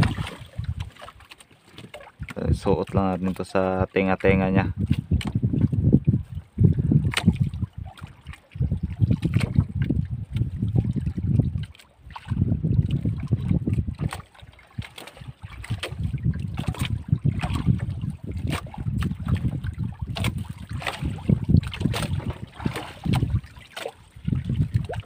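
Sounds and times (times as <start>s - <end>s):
wind buffeting microphone: 0.0s - 1.2s, 1.8s - 25.0s.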